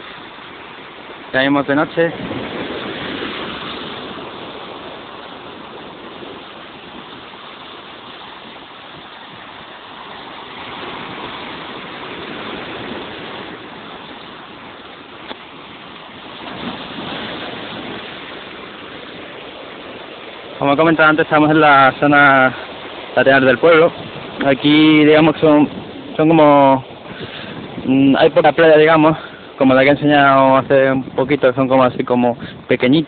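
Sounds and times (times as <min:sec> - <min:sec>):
sea surf washing on shore: 0:00.0 - 0:33.0.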